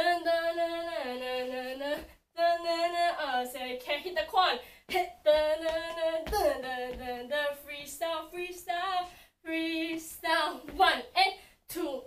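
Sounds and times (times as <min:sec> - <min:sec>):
woman singing wordless melody: 0:00.0 - 0:12.0.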